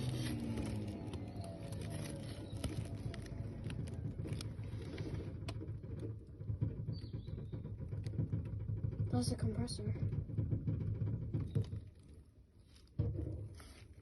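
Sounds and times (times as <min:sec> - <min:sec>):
air compressor rumbling: 0:00.0 - 0:14.0.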